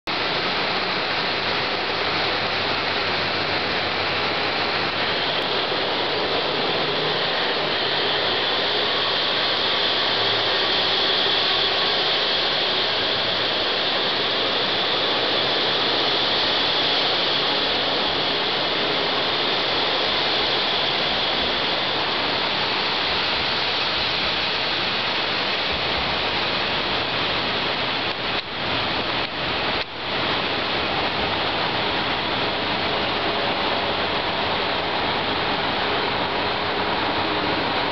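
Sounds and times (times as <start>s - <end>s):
diesel train engines under load: 0.1s - 37.9s.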